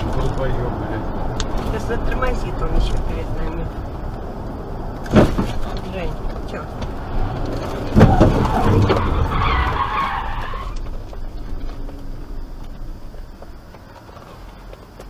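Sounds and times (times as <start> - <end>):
car tyres skidding: 0.0 - 14.6.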